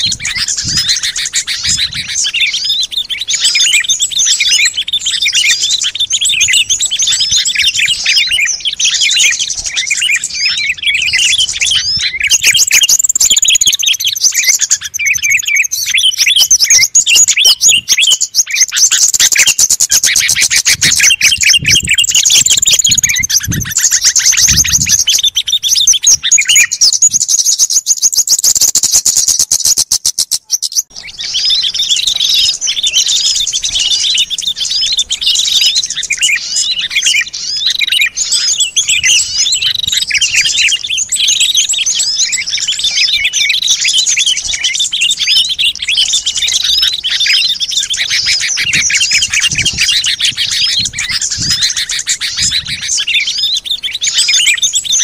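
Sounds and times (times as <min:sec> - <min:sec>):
chorus of small birds chirping: 0:00.0 - 0:55.0
high trill of songbird: 0:00.0 - 0:55.0.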